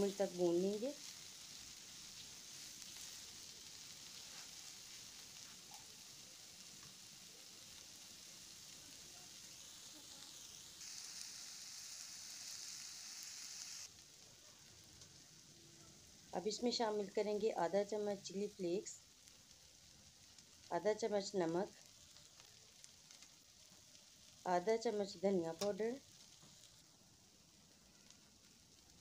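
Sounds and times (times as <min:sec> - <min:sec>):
food sizzling in frying pan: 0:00.0 - 0:29.0.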